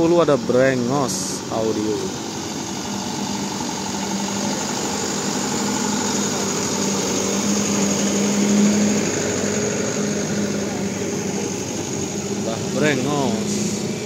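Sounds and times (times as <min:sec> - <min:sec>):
steady low hum: 0:00.0 - 0:14.0
truck engine passing: 0:00.0 - 0:14.0.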